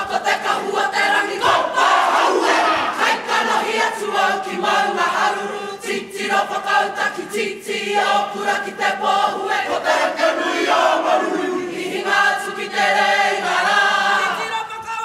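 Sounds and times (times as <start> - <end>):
group singing in chorus: 0.0 - 14.9.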